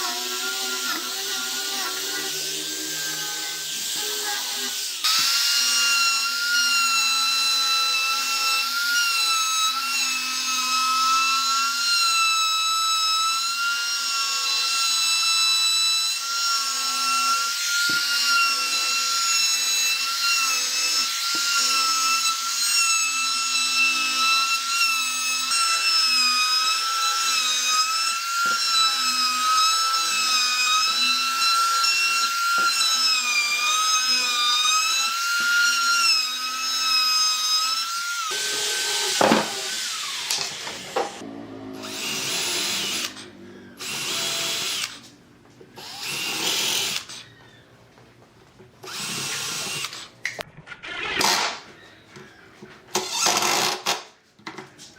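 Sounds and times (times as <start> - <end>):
power tool whining: 0.0 - 47.7, 48.8 - 54.1.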